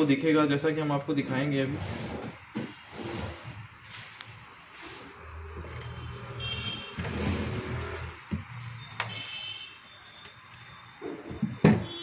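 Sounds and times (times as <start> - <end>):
hot-air station blowing: 0.0 - 9.6.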